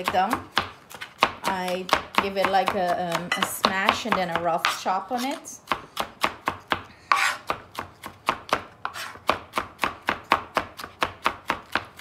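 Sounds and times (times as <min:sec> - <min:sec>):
knife chopping on cutting board: 0:00.0 - 0:12.0.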